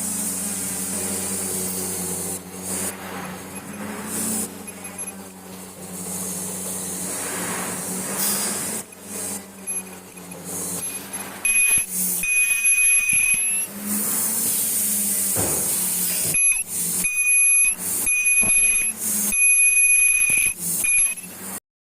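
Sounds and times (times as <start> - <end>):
hissing air bursts: 0.0 - 4.9, 5.7 - 19.5
high machine whine: 0.0 - 21.6.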